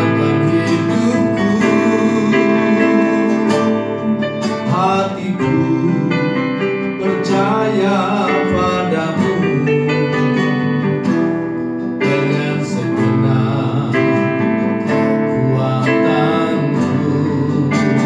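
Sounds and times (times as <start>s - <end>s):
man singing: 0.0s - 10.6s, 12.0s - 18.0s
keyboard: 0.0s - 18.0s
strummed acoustic guitar: 0.0s - 18.0s.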